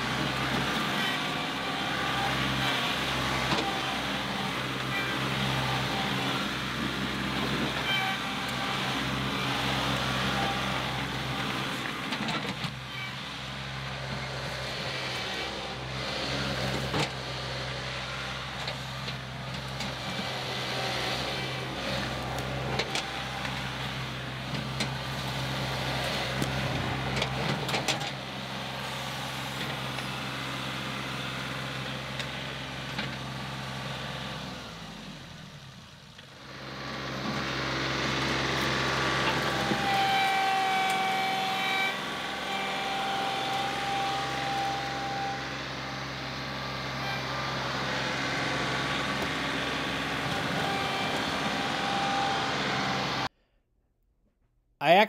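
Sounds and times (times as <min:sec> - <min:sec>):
loader bucket digging dirt: 0:00.0 - 0:53.3
tractor diesel engine running: 0:00.0 - 0:53.3.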